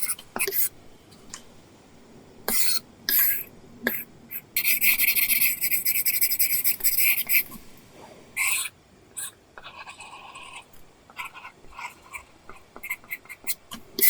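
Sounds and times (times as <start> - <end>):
stylus scratching on screen film: 2.5 - 13.9.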